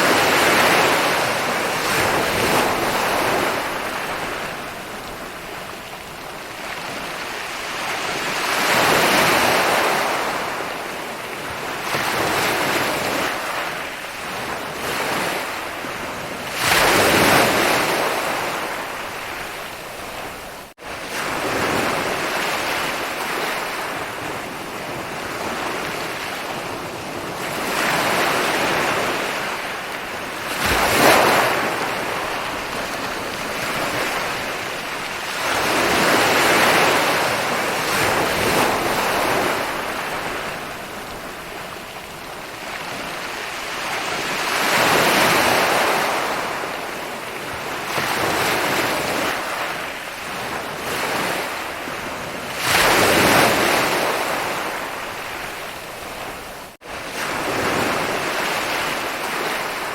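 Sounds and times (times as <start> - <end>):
wave crashing: 0.0 - 10.8, 11.7 - 59.9
ocean surf on a beach: 0.0 - 59.9.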